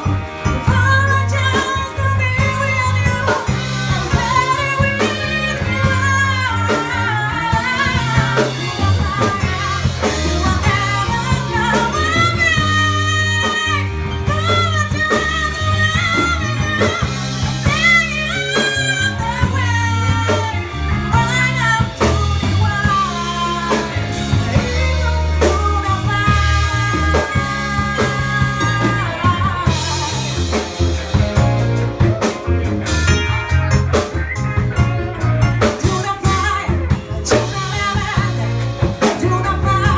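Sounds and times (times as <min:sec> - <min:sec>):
person singing with vibrato: 0:00.0 - 0:32.3, 0:34.8 - 0:39.9
drums and cymbals: 0:00.0 - 0:39.9
live blues band: 0:00.0 - 0:39.9.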